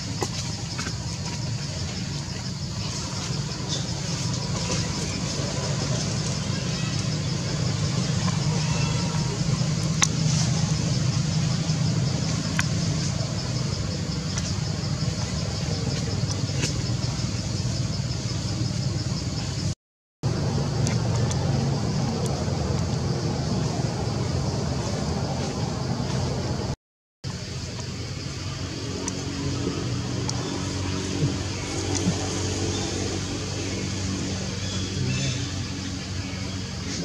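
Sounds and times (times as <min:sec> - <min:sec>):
constant low rumble: 0:00.0 - 0:37.0.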